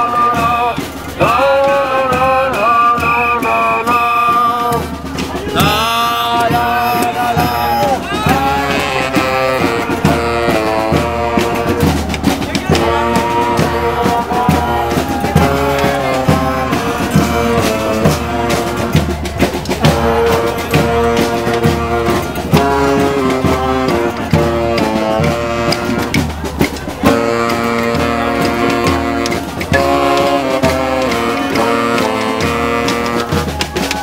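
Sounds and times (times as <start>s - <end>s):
drum beat: 0.0s - 34.0s
sliding melody: 4.7s - 33.6s.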